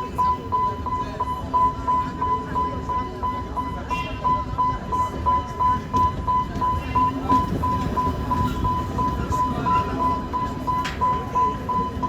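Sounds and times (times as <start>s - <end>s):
level-crossing alarm beeping: 0.0s - 12.0s
passing train rumble: 0.0s - 12.0s.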